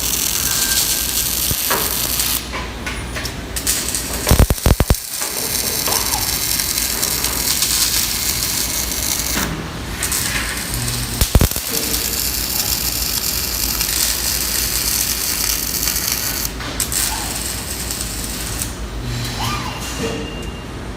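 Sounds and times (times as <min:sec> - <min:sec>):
welding arc crackling hiss: 0:00.0 - 0:02.5, 0:03.4 - 0:19.3
low machine hum: 0:00.0 - 0:20.9.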